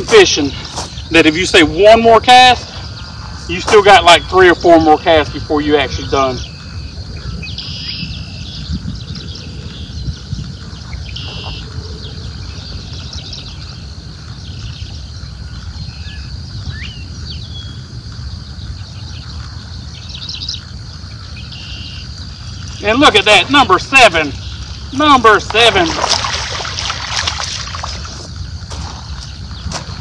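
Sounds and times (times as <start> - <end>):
birds chirping and calling: 0.0 - 30.0.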